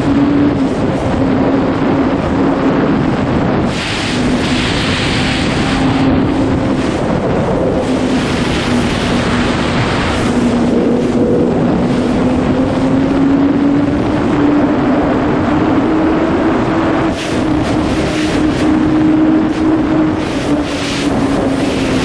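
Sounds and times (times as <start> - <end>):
motorcycle engine at high revs: 0.0 - 22.0
wind rushing over microphone: 0.0 - 22.0.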